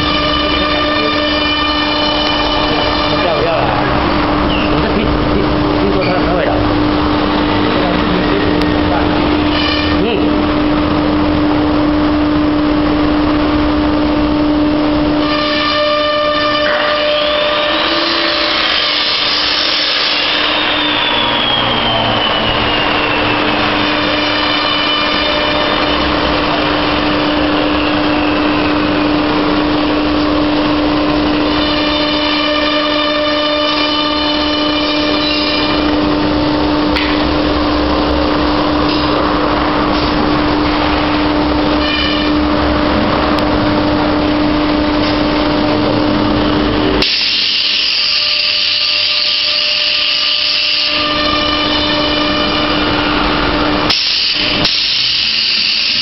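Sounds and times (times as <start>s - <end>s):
milling spindle whine: 0.0s - 47.0s.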